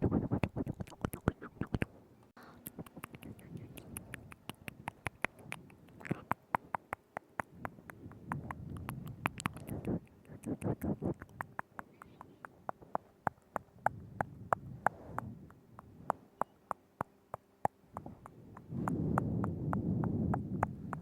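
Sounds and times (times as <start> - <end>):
tongue and lip clicks: 0.0 - 1.9, 2.5 - 21.0.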